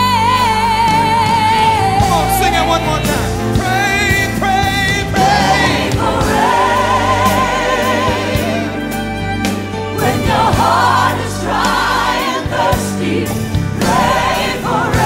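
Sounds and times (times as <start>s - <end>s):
sustained musical accompaniment: 0.0s - 15.0s.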